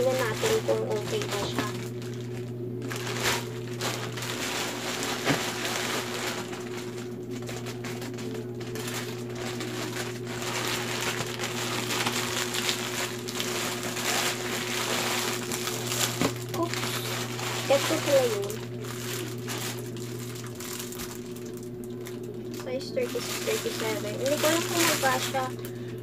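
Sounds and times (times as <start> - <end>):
plastic rustling and crinkling: 0.0 - 26.0
steady low hum: 0.0 - 26.0.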